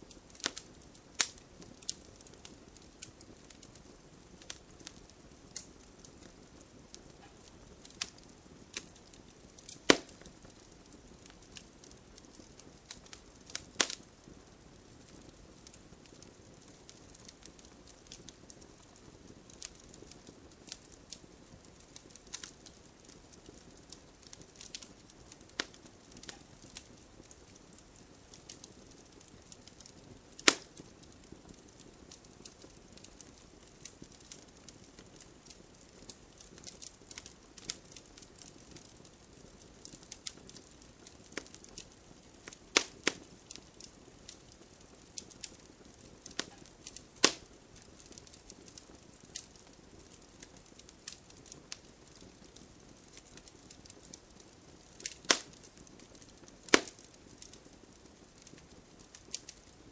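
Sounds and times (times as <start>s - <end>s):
faint hiss of rain: 0.0s - 59.9s
wood fire crackling and popping: 0.0s - 59.9s.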